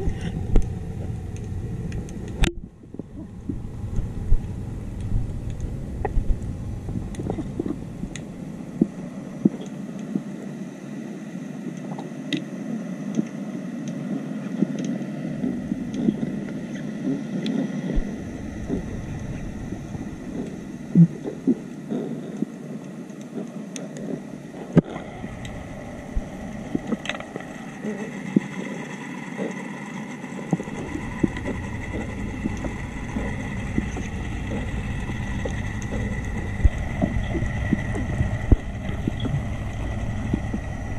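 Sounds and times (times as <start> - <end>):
underwater rush of water: 0.0 - 10.6, 13.0 - 40.9.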